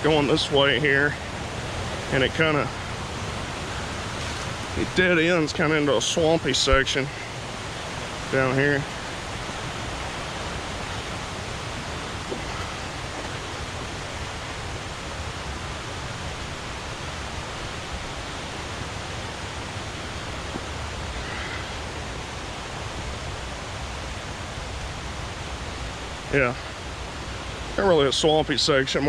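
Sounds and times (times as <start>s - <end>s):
creek rushing: 0.0s - 29.0s.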